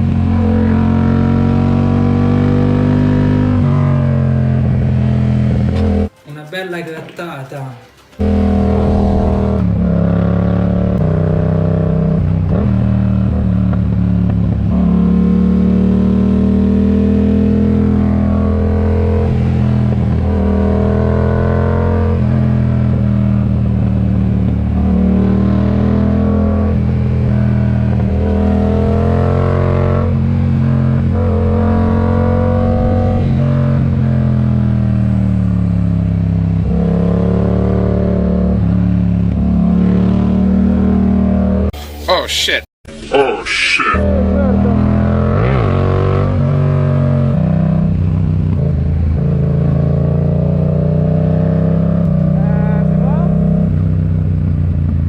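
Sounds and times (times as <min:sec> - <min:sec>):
motorcycle engine under load: 0:07.8 - 0:41.8, 0:44.0 - 0:55.0.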